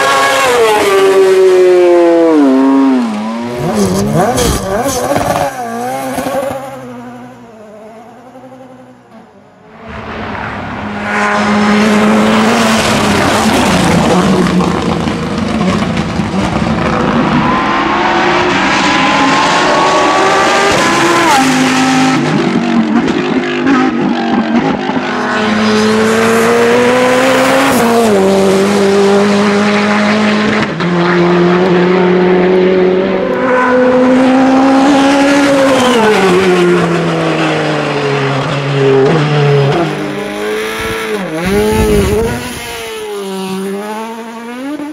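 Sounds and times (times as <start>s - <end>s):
race car engine revving: 0.0s - 9.2s, 9.8s - 44.9s.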